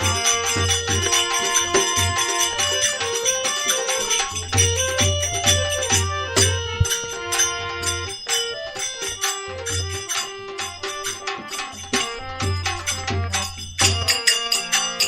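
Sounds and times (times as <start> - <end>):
melody of held notes: 0.0 - 15.0
steady percussion beat: 0.0 - 15.0.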